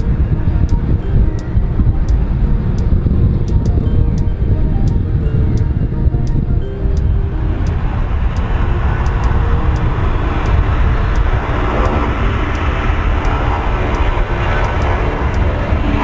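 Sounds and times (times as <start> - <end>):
airplane engine rumble: 0.0 - 16.0.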